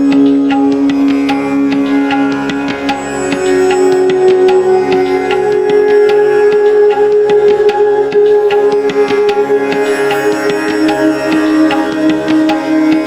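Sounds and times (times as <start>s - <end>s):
held drone: 0.0s - 13.0s
plucked and struck notes: 0.0s - 13.0s.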